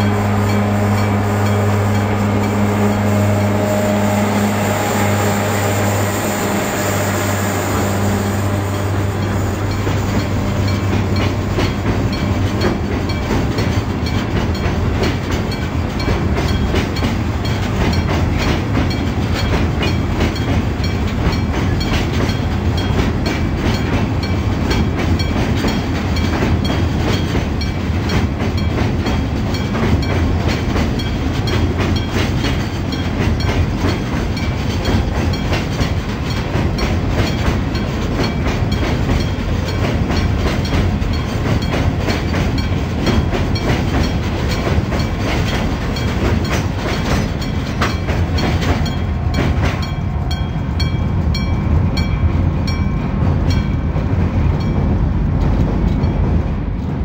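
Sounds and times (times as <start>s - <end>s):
crossing bell ringing: 0.0s - 56.5s
freight train rumbling past: 0.0s - 57.0s.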